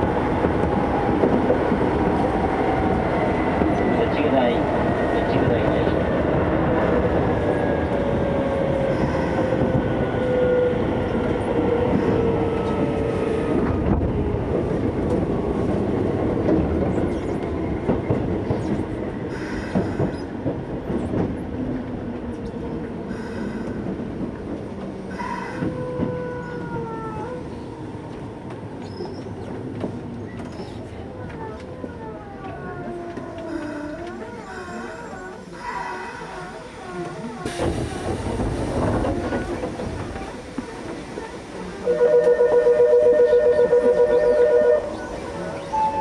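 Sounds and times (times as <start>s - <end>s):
train running noise: 0.0s - 46.0s.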